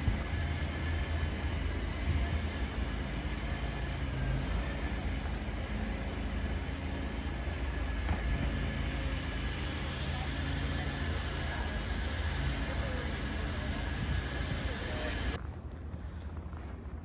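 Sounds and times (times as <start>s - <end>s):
city street noise: 0.0s - 15.4s
vehicle engine humming: 0.0s - 15.4s.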